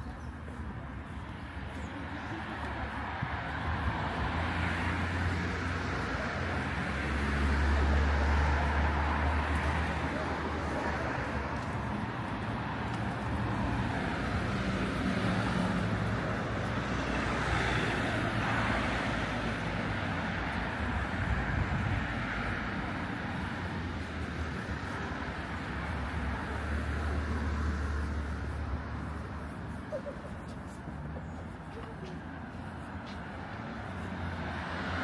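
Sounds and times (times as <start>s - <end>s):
vehicles passing: 0.0s - 35.0s.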